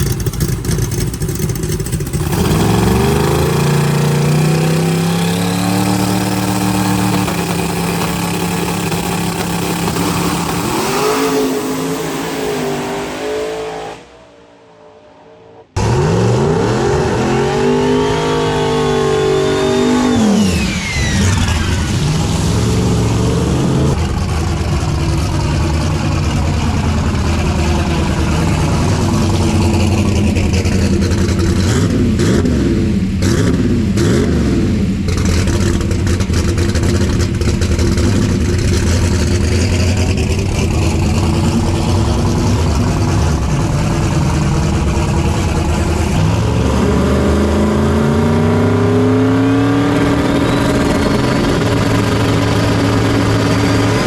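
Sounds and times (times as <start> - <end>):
drag racing engines revving: 0.0 - 54.0.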